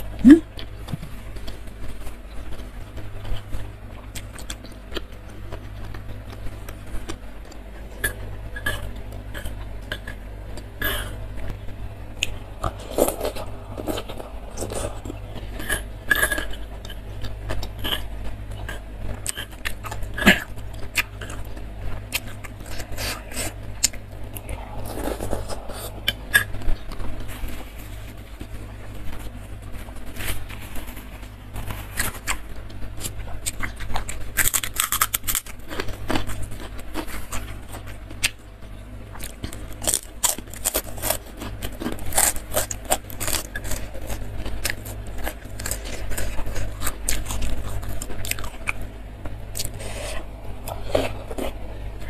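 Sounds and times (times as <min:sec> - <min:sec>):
chewing food: 0:00.0 - 0:52.0.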